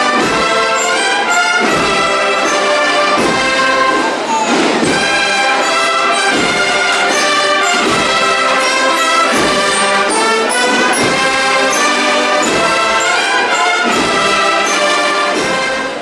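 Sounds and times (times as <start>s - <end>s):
brass band playing a march: 0.0s - 16.0s.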